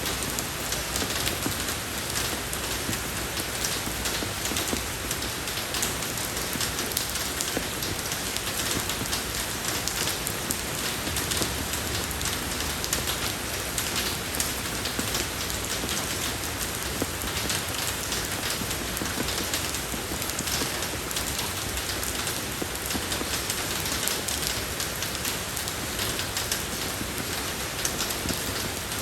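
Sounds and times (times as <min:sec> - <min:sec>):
rain falling on a road: 0:00.0 - 0:29.0.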